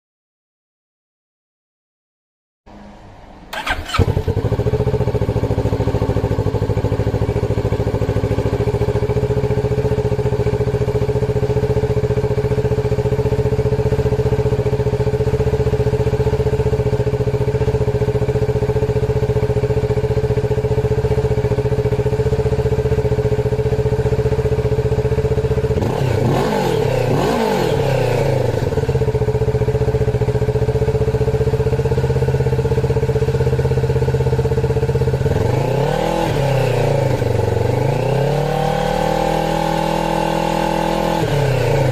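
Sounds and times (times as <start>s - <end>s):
motorcycle engine idling: 3.5s - 38.3s.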